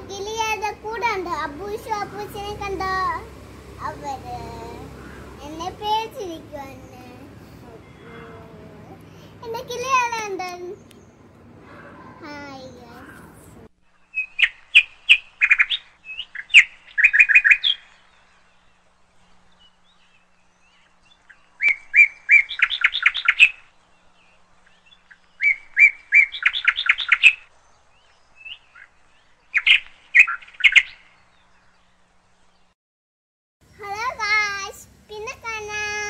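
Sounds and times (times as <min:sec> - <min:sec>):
finch singing: 0:00.0 - 0:32.7.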